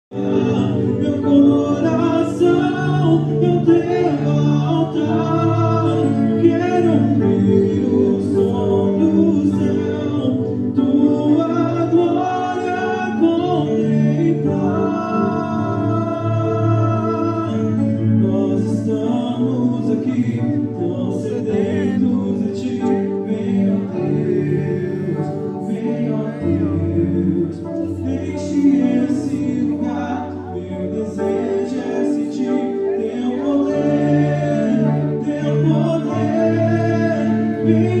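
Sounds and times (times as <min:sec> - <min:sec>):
person singing worship song: 0:00.1 - 0:38.0.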